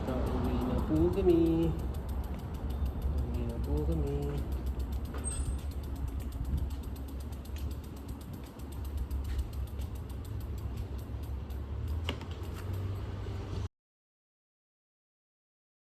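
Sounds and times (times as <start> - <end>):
bicycle freewheel clicking: 0.0 - 13.7
bike creaking: 0.0 - 13.7
wind and road rumble: 0.0 - 13.7.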